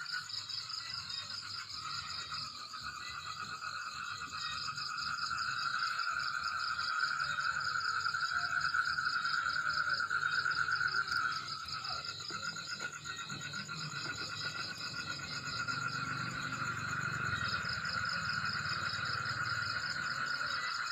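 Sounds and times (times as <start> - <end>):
frogs trilling: 0.0 - 20.9
insects chirping: 0.0 - 20.9.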